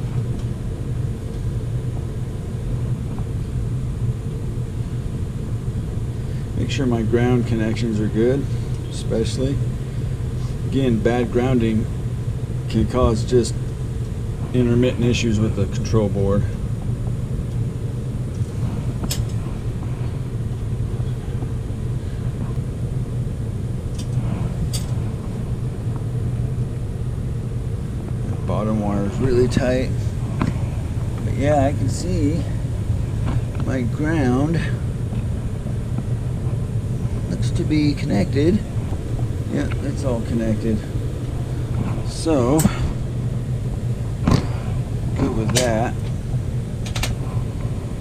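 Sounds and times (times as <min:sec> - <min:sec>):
furnace humming and rumbling: 0:00.0 - 0:48.0.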